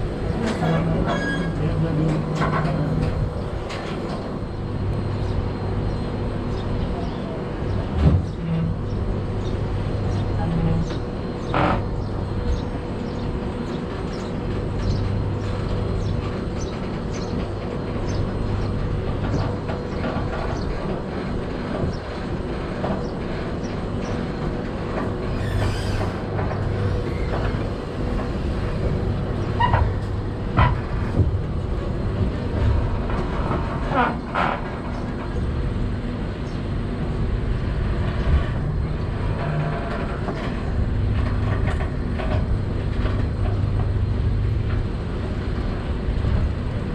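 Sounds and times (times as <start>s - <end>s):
train rumbling along track: 0.0s - 46.9s.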